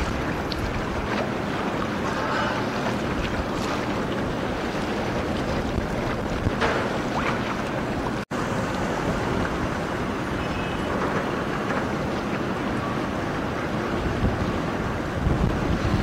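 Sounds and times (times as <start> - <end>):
river water rushing: 0.0 - 16.0
wind buffeting microphone: 0.0 - 16.0.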